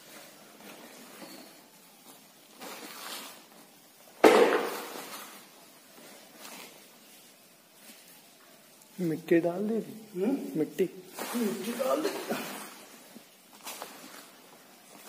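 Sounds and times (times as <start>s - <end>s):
plastic sheeting rustling crash: 0.0s - 8.4s, 11.1s - 15.0s.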